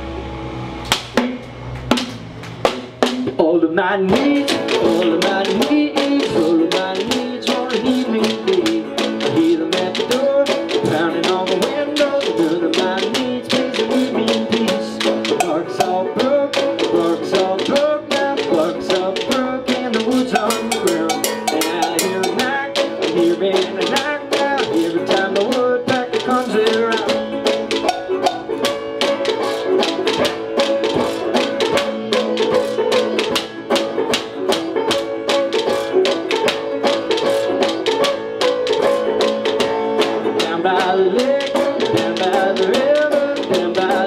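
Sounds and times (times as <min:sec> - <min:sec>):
banjo picking: 0:00.0 - 0:44.0
percussion on wooden crate: 0:00.0 - 0:44.0
resonator guitar picking: 0:00.0 - 0:44.0.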